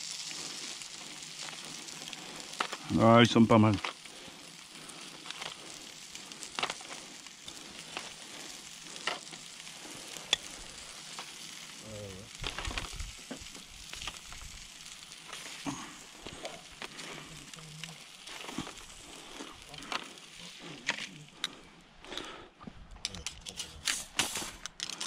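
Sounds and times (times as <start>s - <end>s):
meat sizzling on a grill: 0.0s - 22.4s
wood fire crackling: 0.0s - 25.0s.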